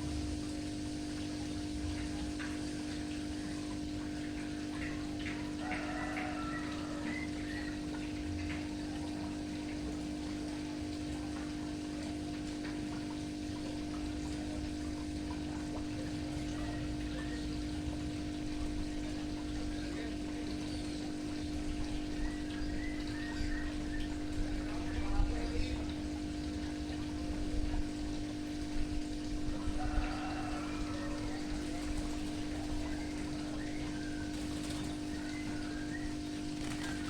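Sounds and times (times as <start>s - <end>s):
water pouring and trickling: 0.0s - 37.0s
water pump humming: 0.0s - 37.0s.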